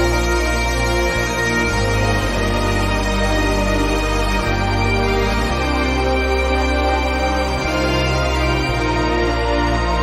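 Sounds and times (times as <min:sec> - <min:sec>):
music with slow sustained chords: 0:00.0 - 0:10.0.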